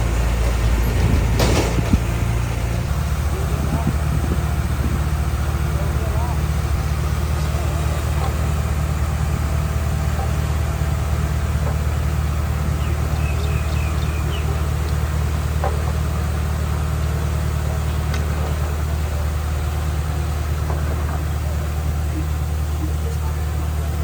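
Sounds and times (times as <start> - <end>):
diesel machine engine drone: 0.0 - 24.0.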